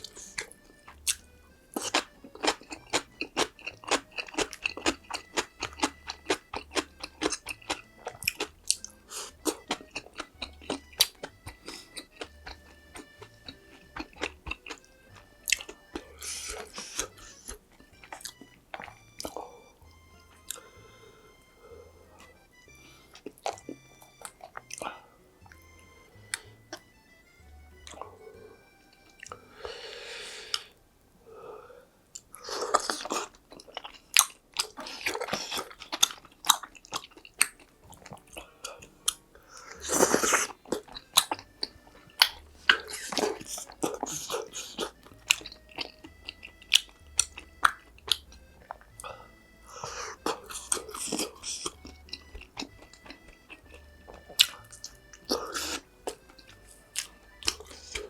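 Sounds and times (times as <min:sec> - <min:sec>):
person chewing crunchy food: 0:00.0 - 0:30.8, 0:32.2 - 0:58.0.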